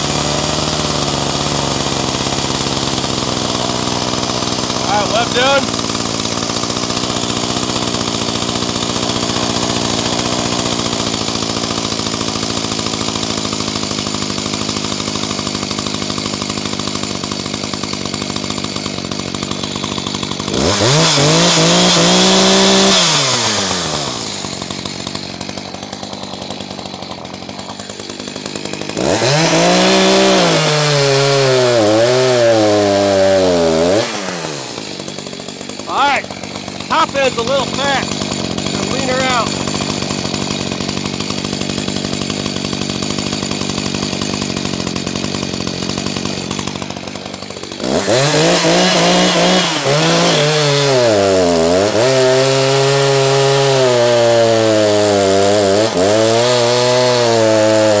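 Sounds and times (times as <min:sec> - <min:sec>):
chainsaw cutting log: 0:00.0 - 0:58.0
chainsaw idling and revving: 0:00.0 - 0:58.0.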